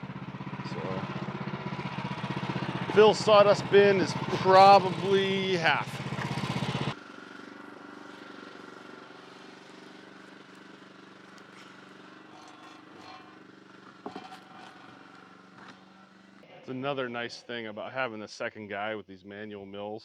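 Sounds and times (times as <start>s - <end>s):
small gasoline engine running: 0.0s - 16.4s.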